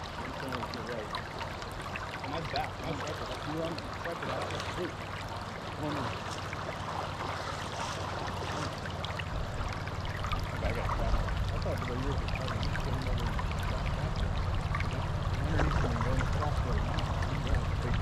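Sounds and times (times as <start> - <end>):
low hum: 0.0 - 18.0
river water flowing: 0.0 - 18.0.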